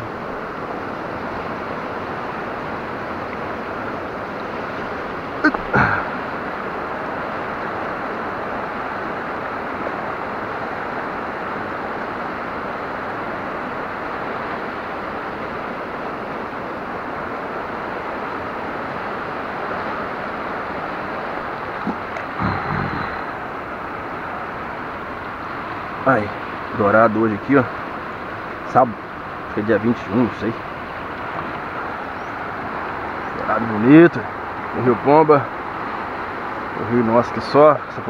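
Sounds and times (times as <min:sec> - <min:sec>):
river water over rocks: 0:00.0 - 0:38.0.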